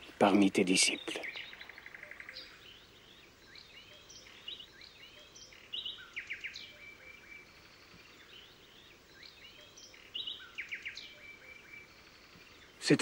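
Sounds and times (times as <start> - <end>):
faint songbird chirps: 0.0 - 13.0
soft steady hiss: 0.0 - 13.0.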